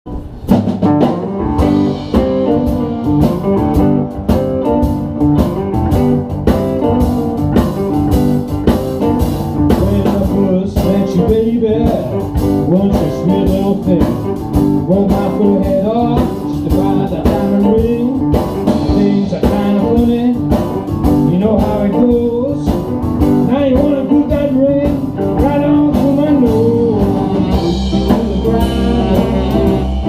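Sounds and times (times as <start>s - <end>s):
bass guitar: 0.0s - 30.0s
electric guitar riff: 0.1s - 30.0s
steady drum beat: 0.1s - 30.0s.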